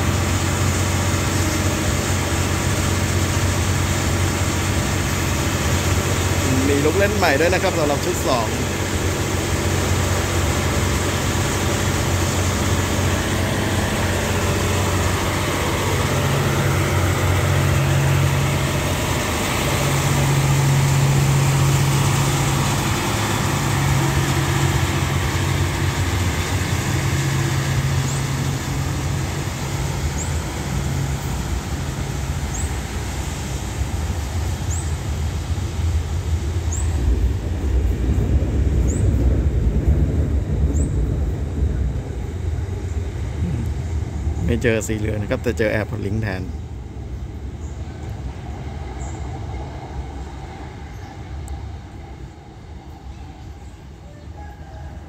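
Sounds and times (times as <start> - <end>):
low rumble: 0.0 - 54.0
diesel train engines droning: 0.0 - 55.0.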